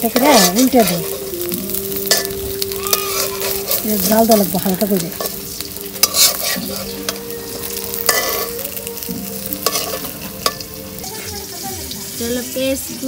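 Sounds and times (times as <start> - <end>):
metal spatula scraping pan: 0.0 - 11.4
food sizzling in hot oil: 0.0 - 13.0.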